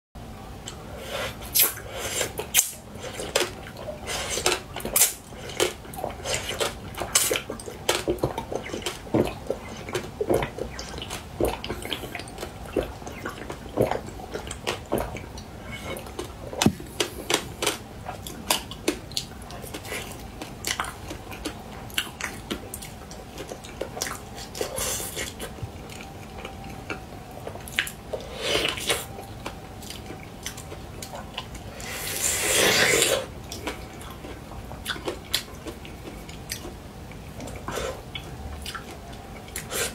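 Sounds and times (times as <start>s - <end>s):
crunchy food chewing: 1.5s - 39.9s.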